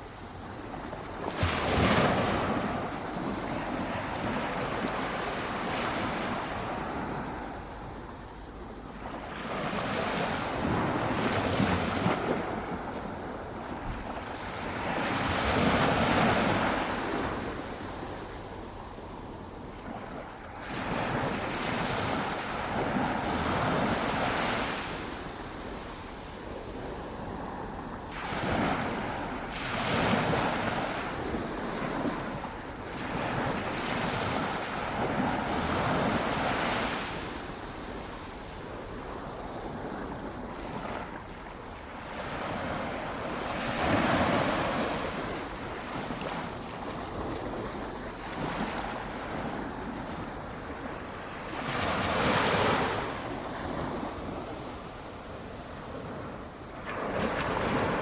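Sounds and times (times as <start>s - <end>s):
small waves washing up beach: 0.0s - 58.0s.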